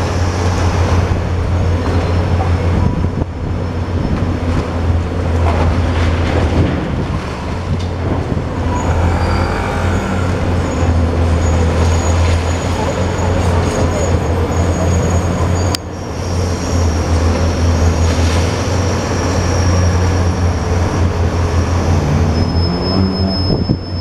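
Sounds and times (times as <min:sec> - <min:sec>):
excavator diesel engine running: 0:00.0 - 0:22.7.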